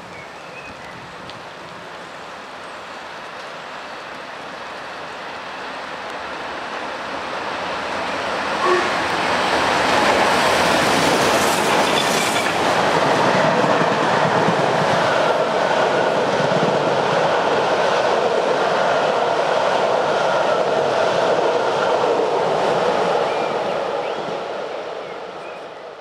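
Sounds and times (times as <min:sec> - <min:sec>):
steam locomotives passing: 0:00.0 - 0:26.0
train wheels on rails: 0:00.0 - 0:26.0.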